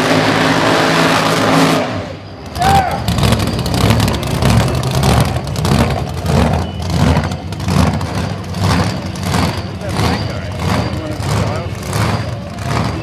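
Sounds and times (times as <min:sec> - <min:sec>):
loud uneven race car engine: 0:00.0 - 0:13.0.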